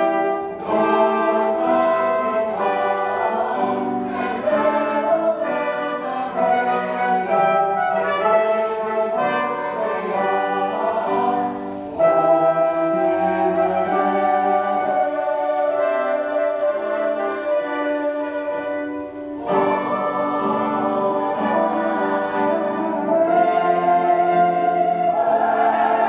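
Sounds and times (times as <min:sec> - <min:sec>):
grand piano: 0:00.0 - 0:26.0
mixed choir singing: 0:00.0 - 0:26.0.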